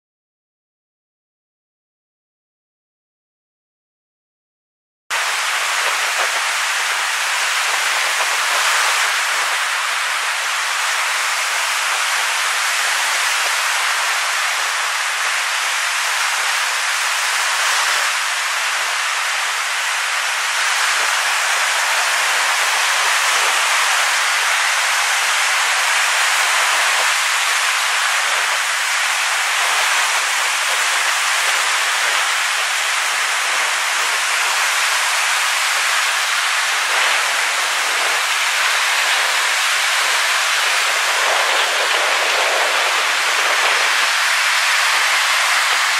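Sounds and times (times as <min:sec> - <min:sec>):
rushing water hiss: 0:05.1 - 0:45.9.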